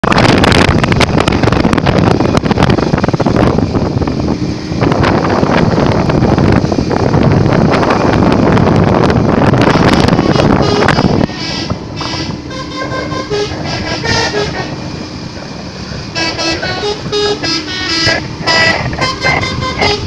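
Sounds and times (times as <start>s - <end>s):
moving vehicle rumble: 0.0s - 20.0s
wind buffeting microphone: 0.0s - 20.0s.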